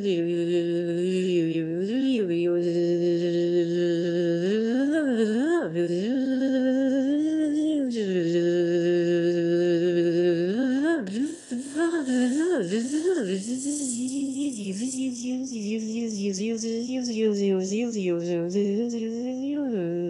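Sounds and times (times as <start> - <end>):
person singing long notes: 0.0 - 20.0.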